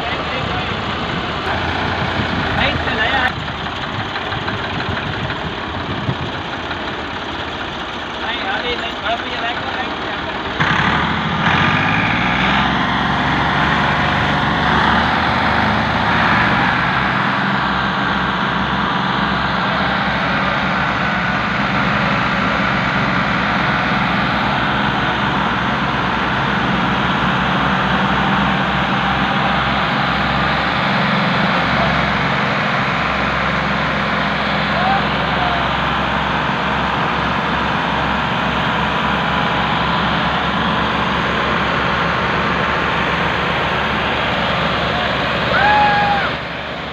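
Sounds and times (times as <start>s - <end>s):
diesel tractors labouring: 0.0s - 46.9s.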